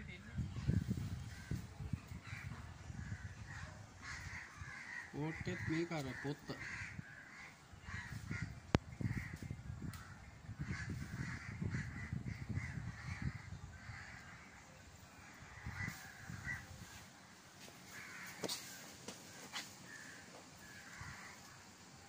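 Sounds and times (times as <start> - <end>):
birds cawing: 0.9 - 17.0, 17.7 - 22.0.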